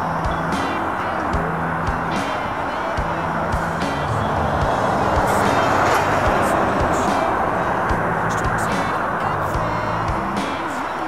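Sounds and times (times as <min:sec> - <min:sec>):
band music with steady beat: 0:00.0 - 0:11.0.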